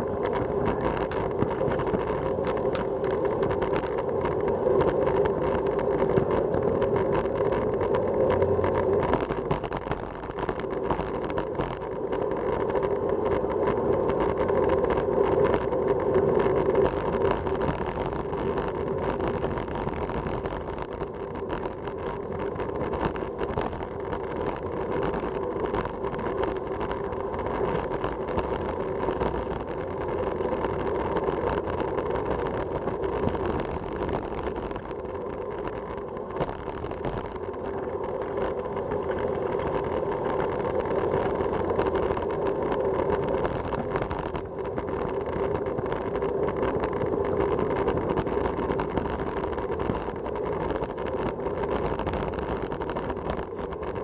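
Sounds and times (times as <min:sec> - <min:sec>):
bicycle tyre noise: 0:00.0 - 0:54.0.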